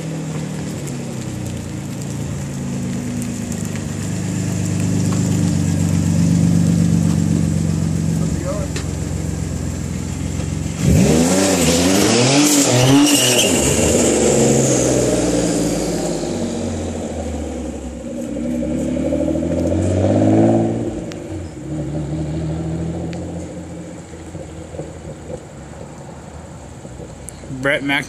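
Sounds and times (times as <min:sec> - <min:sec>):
car engine revving pulling away: 0:00.0 - 0:27.6.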